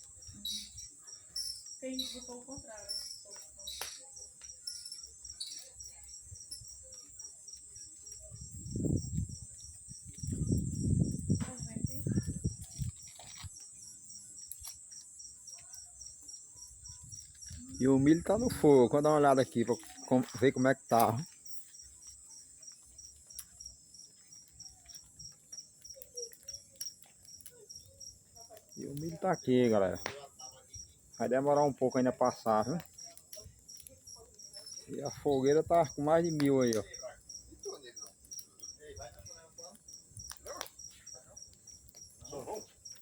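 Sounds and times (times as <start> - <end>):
crickets chirping: 0.0 - 43.0
wood fire crackling: 0.0 - 43.0.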